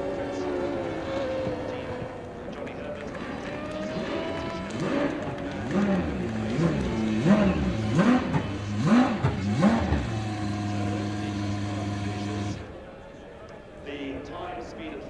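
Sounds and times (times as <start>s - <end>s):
racing car engine revving: 0.0s - 12.8s.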